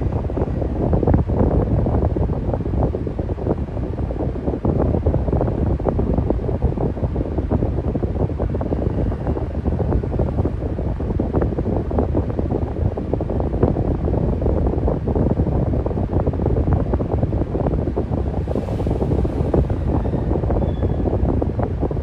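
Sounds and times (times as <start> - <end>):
electric fan running: 0.0 - 22.0.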